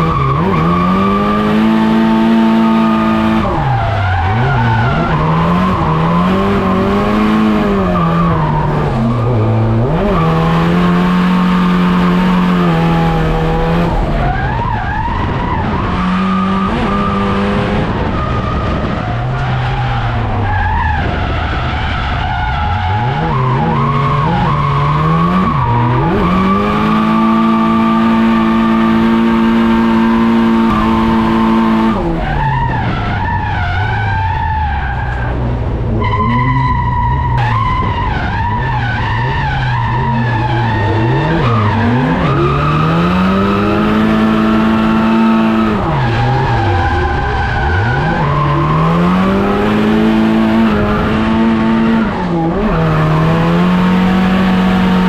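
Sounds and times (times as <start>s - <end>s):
car engine revving: 0.0s - 55.0s
tyres skidding and squealing: 0.0s - 55.0s.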